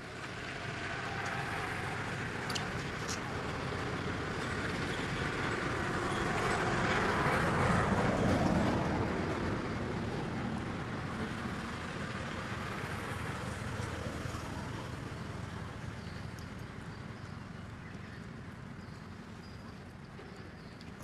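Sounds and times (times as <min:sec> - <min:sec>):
low rumbling outdoor background noise: 0:00.0 - 0:21.0.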